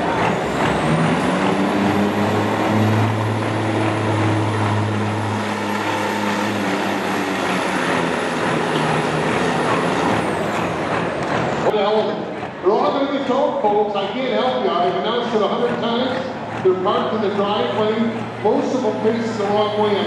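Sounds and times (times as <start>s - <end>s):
diesel truck engine under heavy load: 0.0s - 20.0s.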